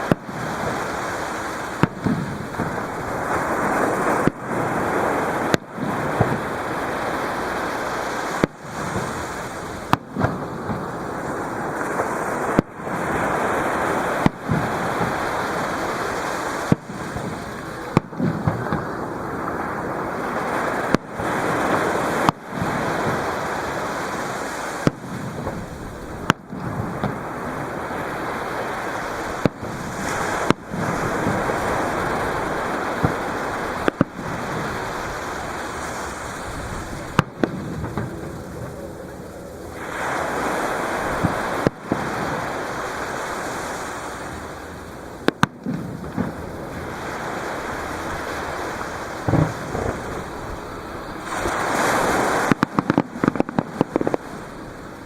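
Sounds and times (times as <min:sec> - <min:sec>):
fireworks booming: 0:00.0 - 0:55.0
surf breaking: 0:00.0 - 0:55.0.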